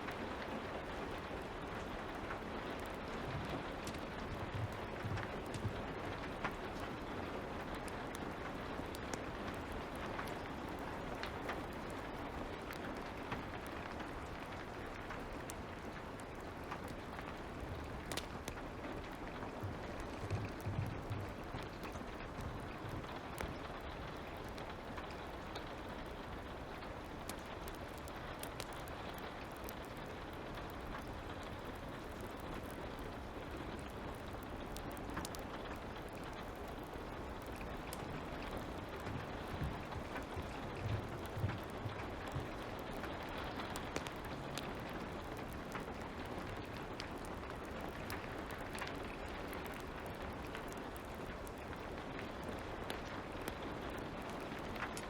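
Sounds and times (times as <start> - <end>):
fire crackling and popping: 0.0 - 55.0
light rain falling: 0.0 - 55.0.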